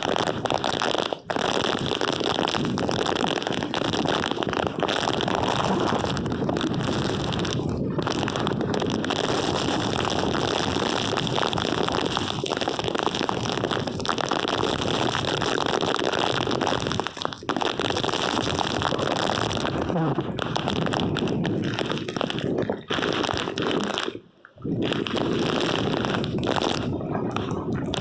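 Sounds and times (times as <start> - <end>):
heavy rain: 0.0 - 28.0
hurricane wind: 1.8 - 15.6, 16.3 - 24.0, 24.6 - 28.0.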